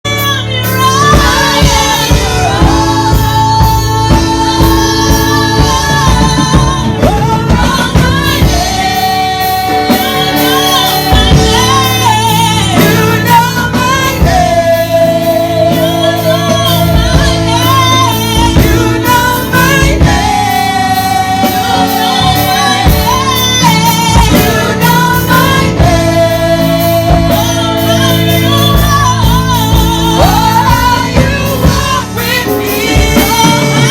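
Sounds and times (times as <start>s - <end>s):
instrumental accompaniment: 0.1s - 33.9s.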